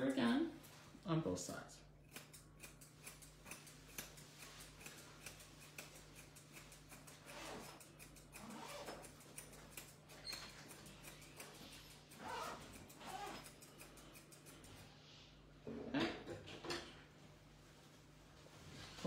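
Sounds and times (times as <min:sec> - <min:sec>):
grooming shears snipping hair: 0:00.0 - 0:15.4.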